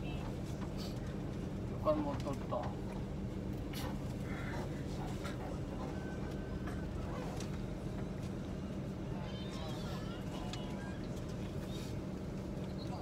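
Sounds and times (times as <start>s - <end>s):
bus diesel engine hum: 0.0s - 13.0s.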